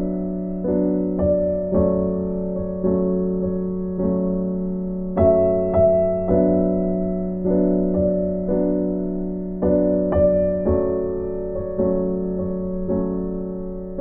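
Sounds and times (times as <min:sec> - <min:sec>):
gentle piano piece: 0:00.0 - 0:14.0.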